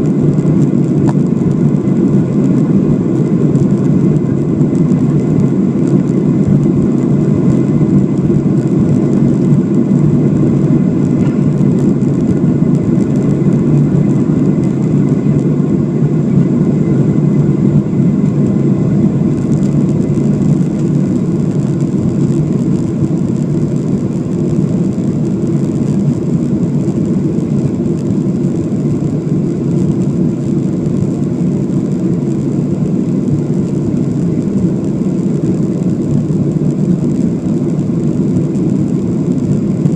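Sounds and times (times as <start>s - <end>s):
aircraft engine rumble: 0.0s - 39.9s.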